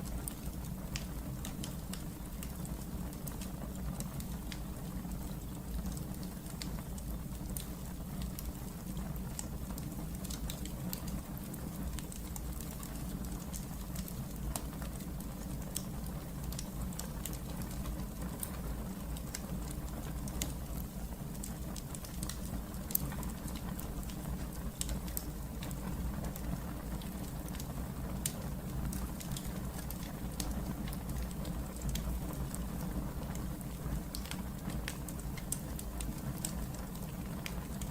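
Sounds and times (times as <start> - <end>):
fire crackles and pops: 0.0 - 37.9
wood fire rumbling: 0.0 - 37.9.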